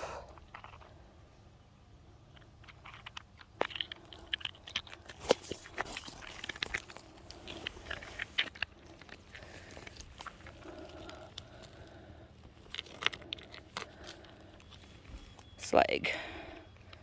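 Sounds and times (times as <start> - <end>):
gravel crunching: 0.0 - 17.0.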